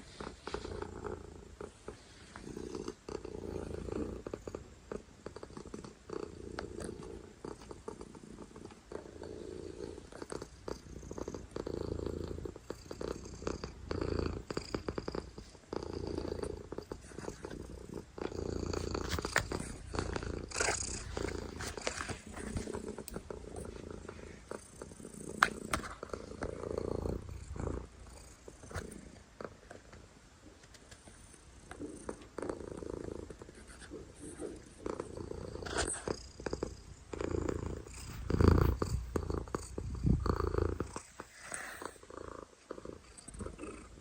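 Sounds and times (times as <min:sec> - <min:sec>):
cat purring: 0:00.0 - 0:44.0.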